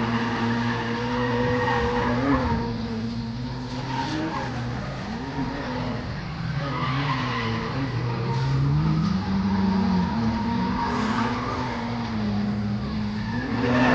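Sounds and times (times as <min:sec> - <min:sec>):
car engine revving: 0:00.0 - 0:13.9
tyres skidding: 0:00.0 - 0:13.9.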